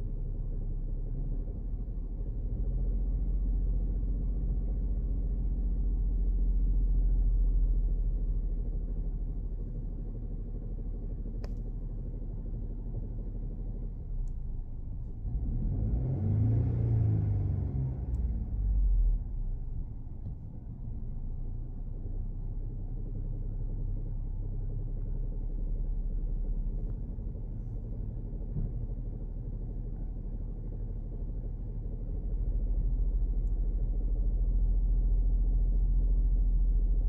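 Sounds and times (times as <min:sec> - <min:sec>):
car engine rumble: 0:00.0 - 0:37.0.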